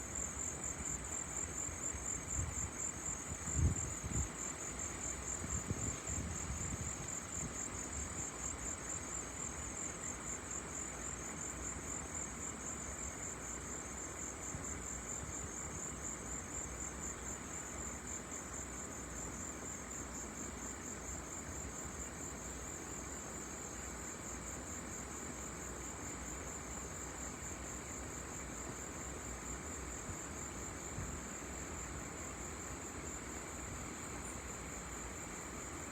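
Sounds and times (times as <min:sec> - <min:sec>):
crickets trilling: 0:00.0 - 0:35.9.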